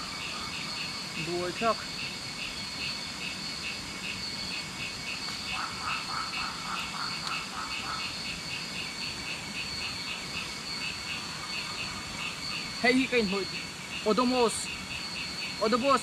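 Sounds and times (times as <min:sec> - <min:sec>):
low pulsing frog croak: 0:00.0 - 0:15.6
frog call: 0:00.0 - 0:16.0
high insect trill: 0:00.0 - 0:16.0.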